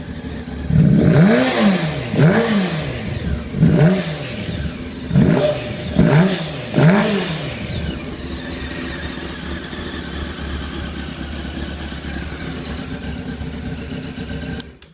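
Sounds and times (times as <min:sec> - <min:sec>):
motorcycle engine idling: 0:00.0 - 0:14.9
motorcycle engine revving: 0:00.0 - 0:14.9.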